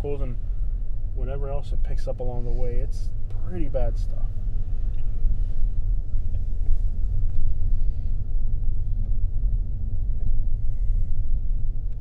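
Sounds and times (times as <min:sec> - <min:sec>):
car driving slowly: 0:00.0 - 0:12.0.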